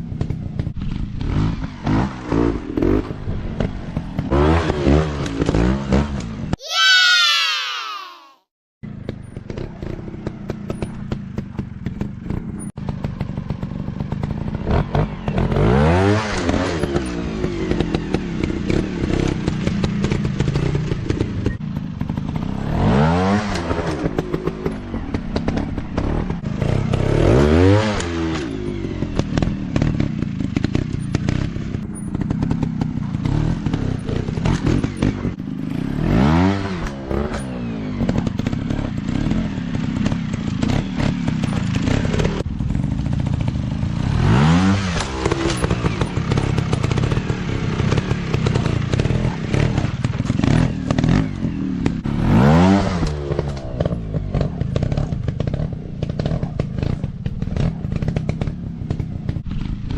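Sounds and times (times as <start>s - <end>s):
dirt bike engines revving: 9.0s - 59.9s.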